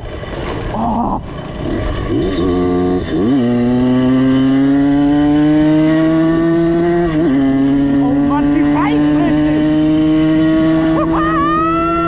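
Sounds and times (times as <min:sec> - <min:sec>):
moped engine revving: 0:00.0 - 0:12.0.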